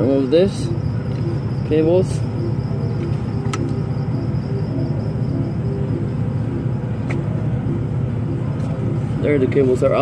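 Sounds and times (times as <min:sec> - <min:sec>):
engine low rumble: 0:00.0 - 0:10.0.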